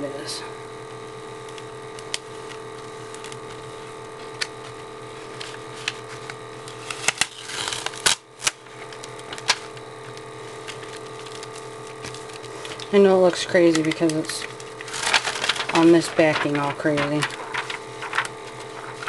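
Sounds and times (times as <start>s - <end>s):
steady low hum: 0.0s - 19.0s
vinyl crinkling and peeling: 1.4s - 19.0s.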